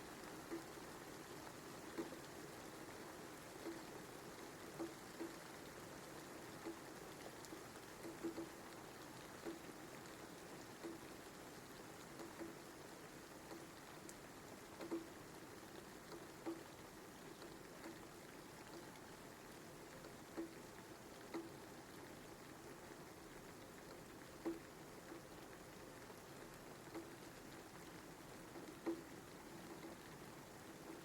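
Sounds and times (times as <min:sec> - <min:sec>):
steady rainfall hiss: 0:00.0 - 0:31.0.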